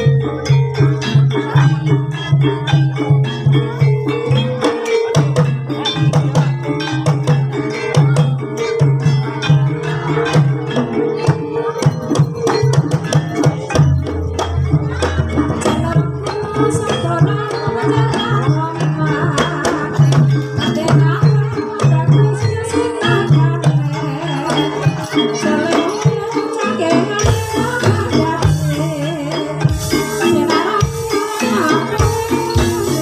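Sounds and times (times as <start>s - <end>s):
ringing tuned metal tones: 0.0s - 33.0s.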